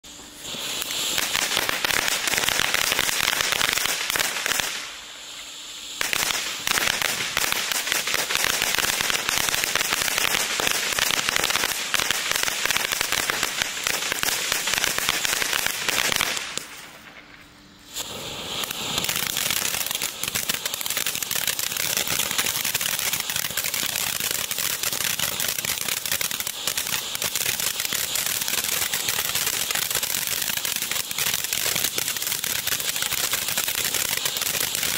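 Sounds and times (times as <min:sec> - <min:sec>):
firework fountain hissing and crackling: 0:00.0 - 0:34.9.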